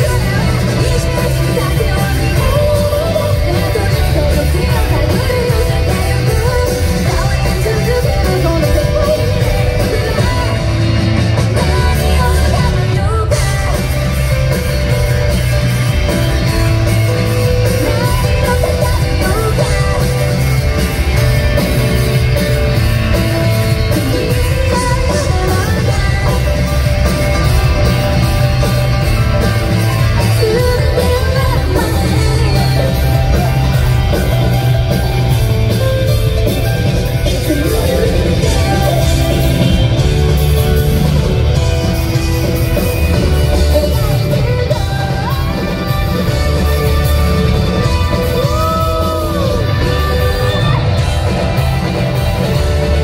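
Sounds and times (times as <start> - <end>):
bass guitar: 0.0 - 53.0
drums: 0.0 - 53.0
electric guitars: 0.0 - 53.0
live rock band playing: 0.0 - 53.0
woman singing lead: 0.0 - 53.0.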